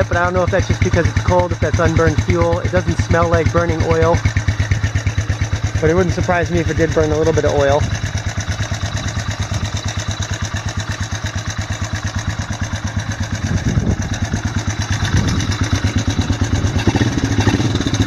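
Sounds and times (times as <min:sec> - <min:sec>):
atv engine idling with rattle: 0:00.0 - 0:18.0.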